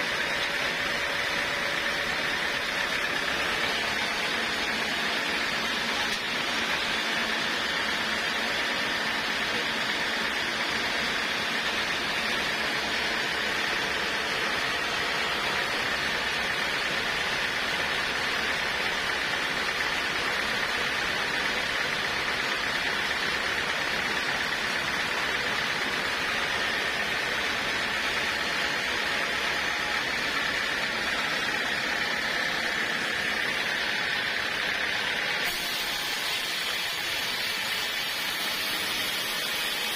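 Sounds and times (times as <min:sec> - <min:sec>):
sawmill cutting log: 0:00.0 - 0:39.9.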